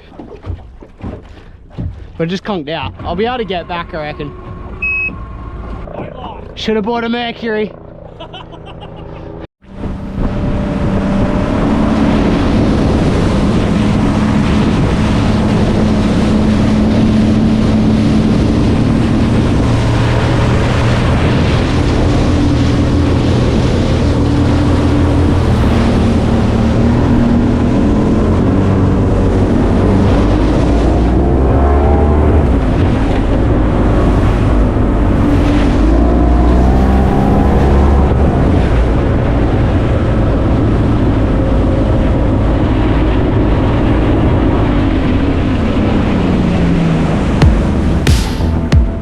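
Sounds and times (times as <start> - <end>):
water rushing: 0.0 - 7.6, 9.7 - 49.0
speedboat engine running: 0.0 - 49.0
wind: 0.0 - 49.0.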